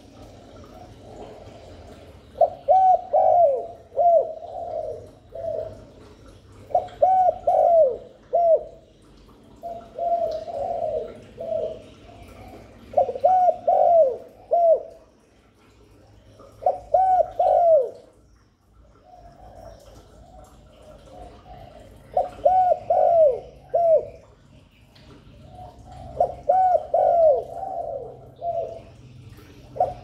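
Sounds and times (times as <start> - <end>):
dove cooing: 0.0 - 15.2, 16.3 - 18.2, 18.9 - 24.5, 25.3 - 30.0.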